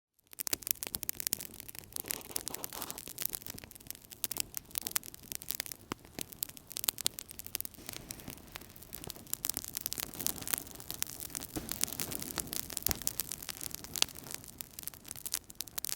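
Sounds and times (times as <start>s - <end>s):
fire crackling and popping: 0.1s - 15.9s
low rush of flames: 0.6s - 15.9s.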